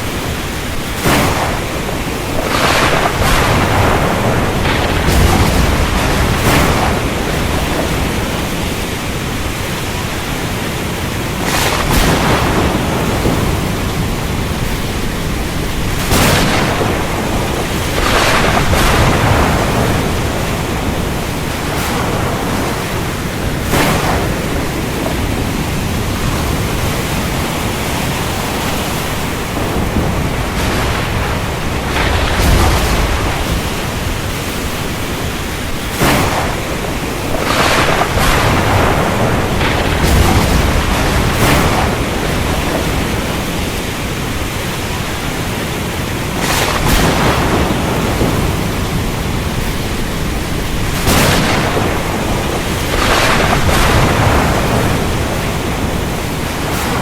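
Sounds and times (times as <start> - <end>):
low thunder rumble: 0.0 - 57.0
sharp thunder cracks: 0.0 - 57.0
steady rain: 0.0 - 57.0.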